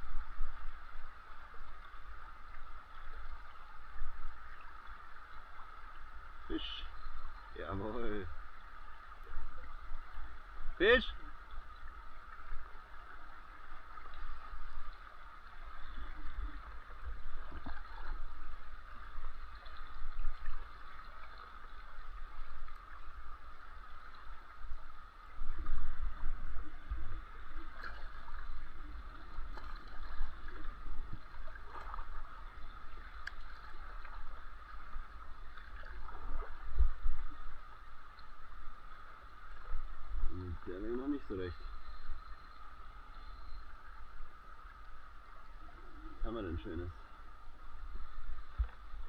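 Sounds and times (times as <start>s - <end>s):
water rushing and gurgling: 0.0s - 49.0s.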